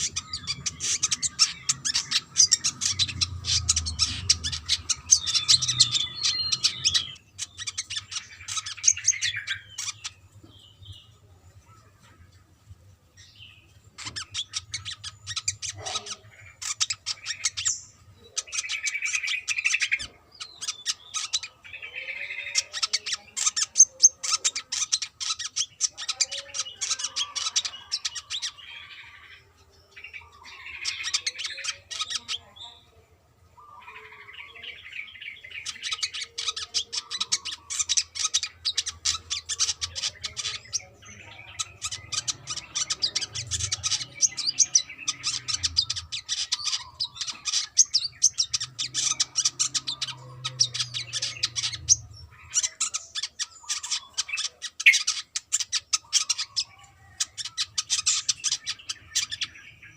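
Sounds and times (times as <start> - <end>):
bird singing high chattering notes: 0.0 - 59.9.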